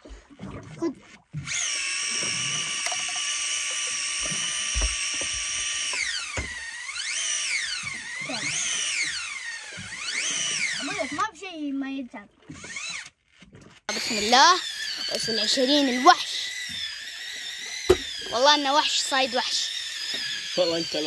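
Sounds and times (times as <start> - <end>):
fishing reel motor whining: 1.3 - 11.4, 12.4 - 21.0.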